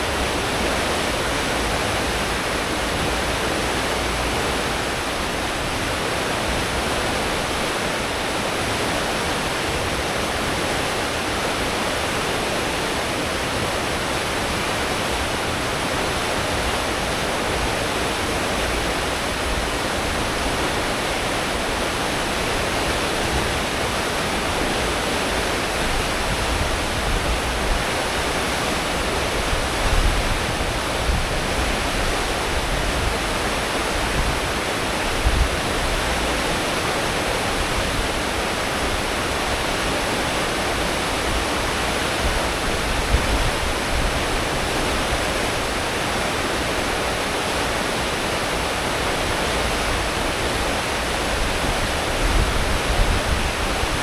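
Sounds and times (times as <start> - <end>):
churned sea water rushing: 0.0 - 54.0.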